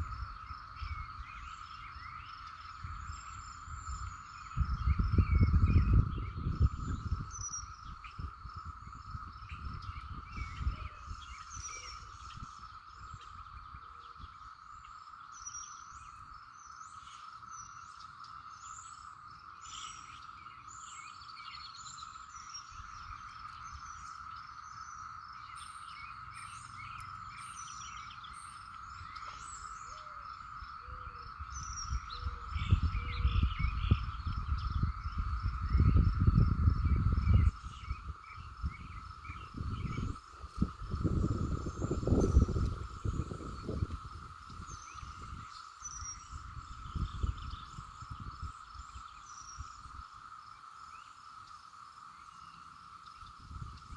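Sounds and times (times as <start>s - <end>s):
wind rumble on microphone: 0.0s - 16.6s, 20.8s - 50.4s, 53.0s - 53.9s
birds chirping: 0.0s - 53.9s
insect drone: 0.0s - 53.9s
pulsing insect chirp: 0.0s - 53.9s.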